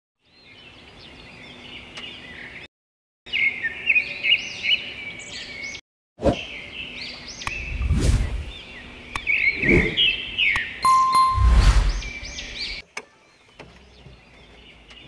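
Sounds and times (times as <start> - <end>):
songbirds chirping: 0.2 - 2.7, 3.3 - 15.0.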